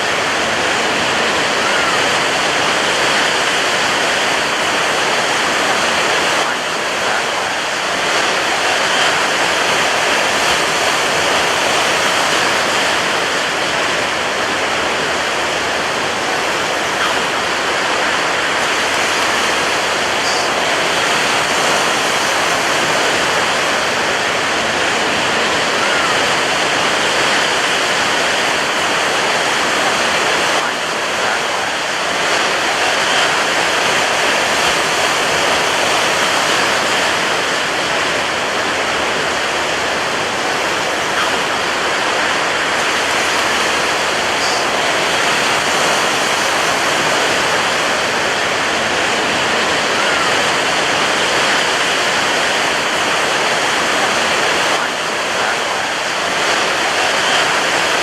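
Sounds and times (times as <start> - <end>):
ocean waves crashing on beach: 0.0 - 58.0.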